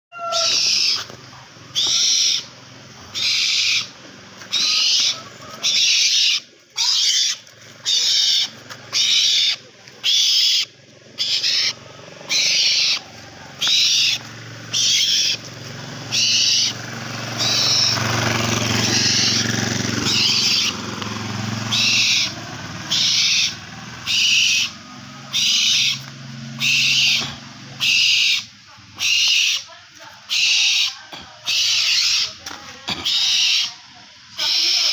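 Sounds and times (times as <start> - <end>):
owl hissing: 0.2 - 1.1, 1.7 - 29.7, 30.3 - 34.9.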